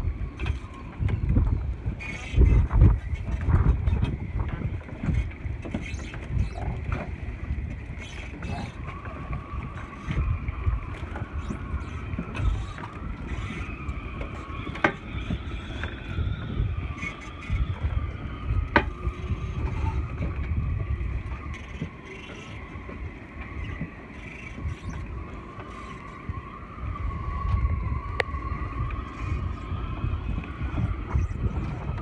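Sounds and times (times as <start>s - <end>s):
wavering whine: 0.0s - 32.0s
wind buffeting microphone: 0.0s - 32.0s.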